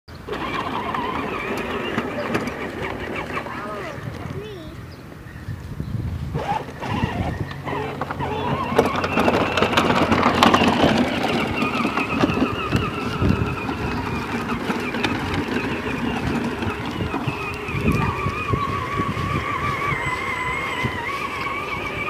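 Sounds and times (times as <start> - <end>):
plastic wheels clattering: 0.2 - 4.6, 6.4 - 22.0
toy electric motor whining: 0.3 - 4.5, 6.4 - 22.0.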